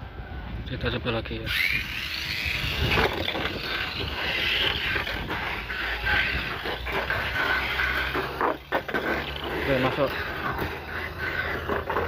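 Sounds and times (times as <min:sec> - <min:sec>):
high motor whine: 0:01.4 - 0:12.0
toy car rattling against track: 0:01.4 - 0:12.0.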